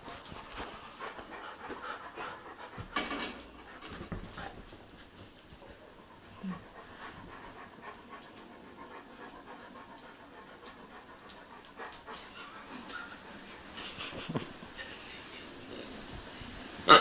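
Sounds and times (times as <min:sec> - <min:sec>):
dog panting: 0:00.0 - 0:15.3.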